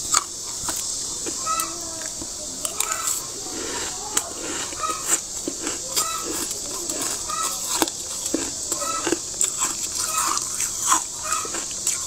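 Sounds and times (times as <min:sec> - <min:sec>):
frost being scraped and cracking: 0:00.0 - 0:12.0
steady high hiss: 0:00.0 - 0:12.0.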